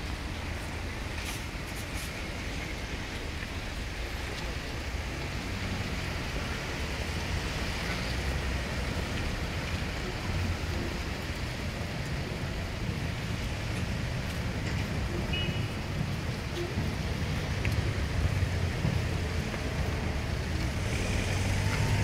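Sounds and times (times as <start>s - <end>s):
street noise hiss: 0.0s - 22.0s.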